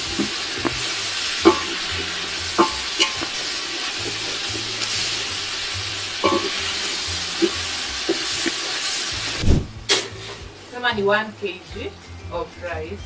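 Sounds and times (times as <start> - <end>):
food sizzling in a pot: 0.0 - 12.8.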